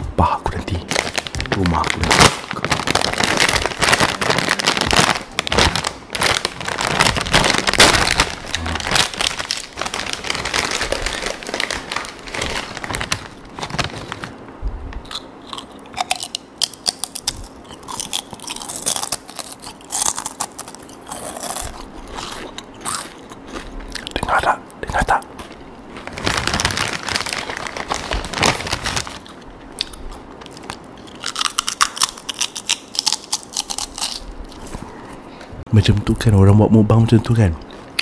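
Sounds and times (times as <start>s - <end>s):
person crunching snack chips: 0.6s - 14.4s, 15.0s - 34.7s.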